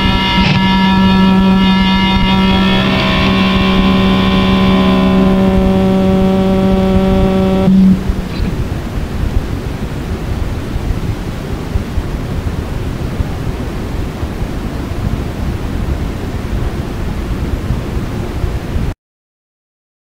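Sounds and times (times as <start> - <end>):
static-like black metal noise: 0.0 - 19.0.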